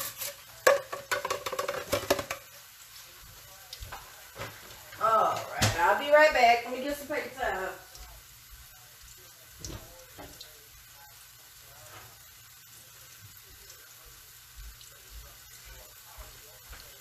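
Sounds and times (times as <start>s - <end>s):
faucet running into sink: 0.0s - 17.0s.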